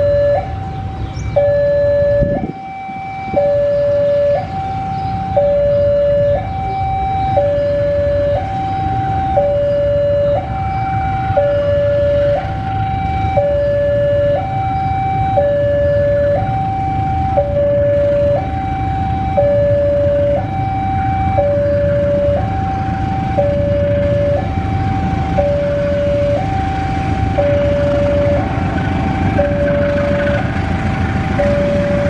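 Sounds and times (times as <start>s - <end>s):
diesel locomotive rumble: 0.0s - 32.0s
level crossing two-tone alarm: 0.0s - 32.0s.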